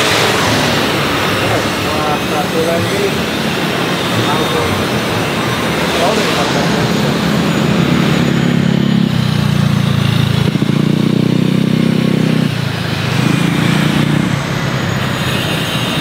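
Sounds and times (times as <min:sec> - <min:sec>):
motorbike engines passing: 0:00.0 - 0:16.0
traffic hum: 0:00.0 - 0:16.0.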